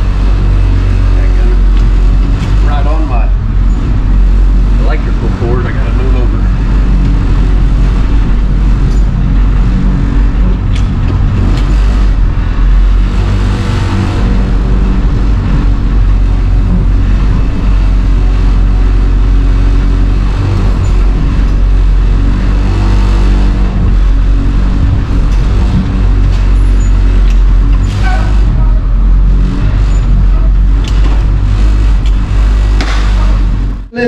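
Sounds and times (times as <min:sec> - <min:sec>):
diesel bus engine running: 0:00.0 - 0:34.0.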